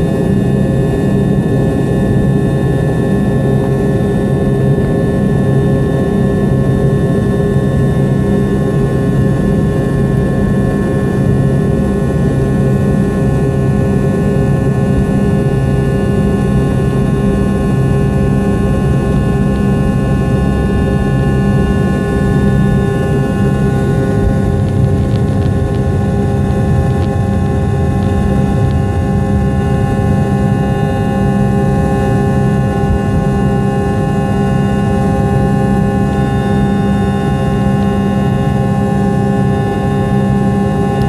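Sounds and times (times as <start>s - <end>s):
jet engines heard from cabin: 0.0s - 41.0s.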